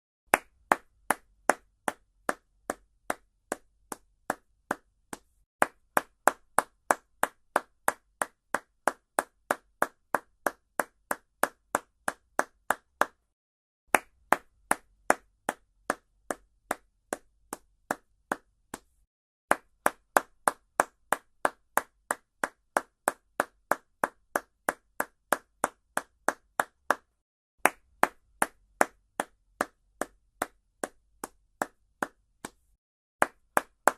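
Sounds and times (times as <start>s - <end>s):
hand claps: 0.3s - 33.9s.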